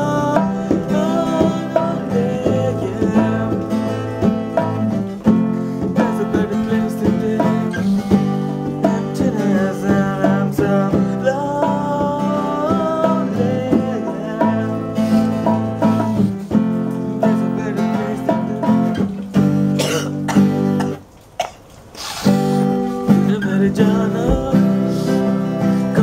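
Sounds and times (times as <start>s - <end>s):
acoustic guitar: 0.0s - 26.0s.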